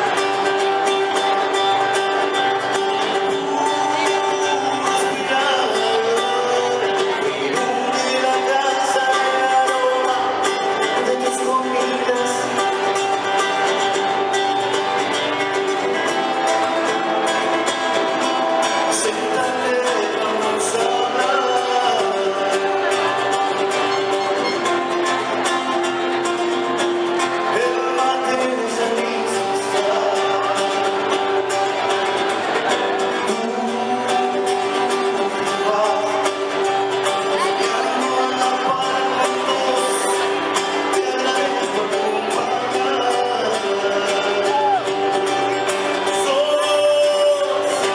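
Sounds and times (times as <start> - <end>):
live band playing: 0.0 - 47.9
person singing: 0.0 - 47.9.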